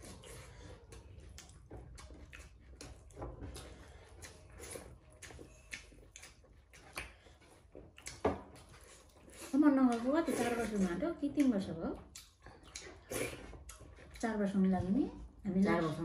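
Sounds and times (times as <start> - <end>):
mouths chewing: 0.0 - 15.4.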